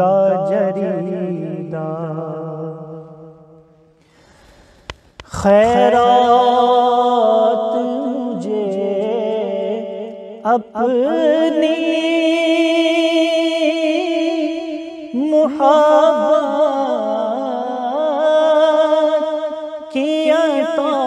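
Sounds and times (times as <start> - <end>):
man singing unaccompanied: 0.0 - 3.8, 5.3 - 21.0.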